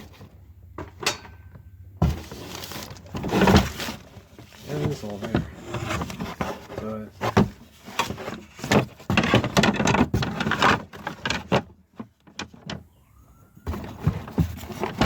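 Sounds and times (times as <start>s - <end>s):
rustling and knocking objects: 0.0s - 12.9s, 13.5s - 15.0s.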